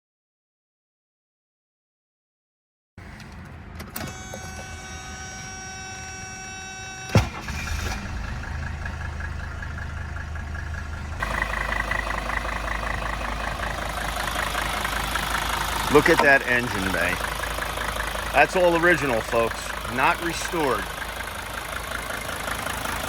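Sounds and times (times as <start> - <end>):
diesel engine idling: 4.0 - 23.0.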